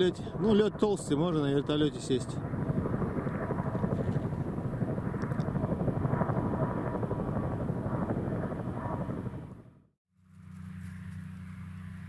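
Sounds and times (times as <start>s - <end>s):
helicopter rotor chop: 0.0s - 12.0s.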